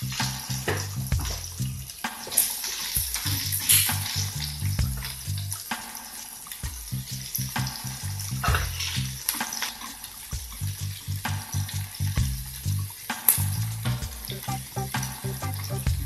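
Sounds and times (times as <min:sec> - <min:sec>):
background music with bass line: 0:00.0 - 0:02.0, 0:03.0 - 0:05.7, 0:06.7 - 0:09.3, 0:10.4 - 0:16.0.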